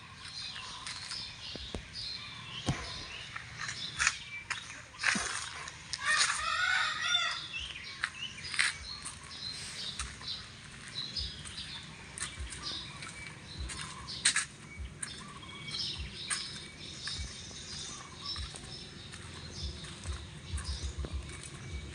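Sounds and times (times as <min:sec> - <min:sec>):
bird chirps: 0:00.0 - 0:21.9.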